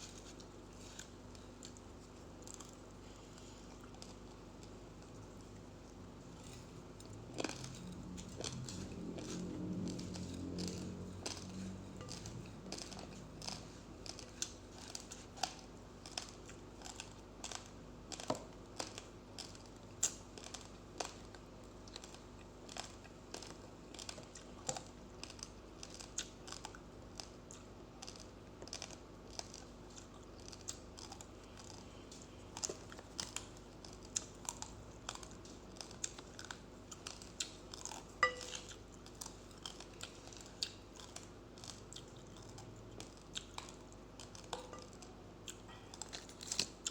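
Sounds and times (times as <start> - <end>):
person chewing rice crunching: 0.0 - 46.9.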